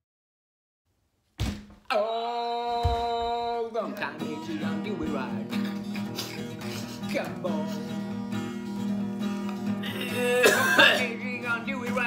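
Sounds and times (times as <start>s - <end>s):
strummed acoustic guitar: 1.9s - 12.0s.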